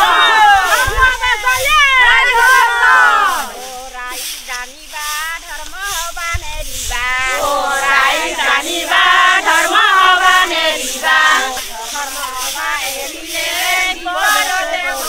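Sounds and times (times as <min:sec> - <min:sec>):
women singing in unison: 0:00.0 - 0:15.0.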